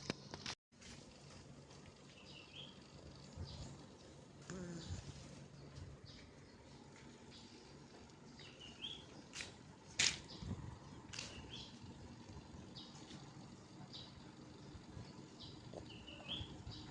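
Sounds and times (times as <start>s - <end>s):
small birds chirping: 1.9s - 16.9s.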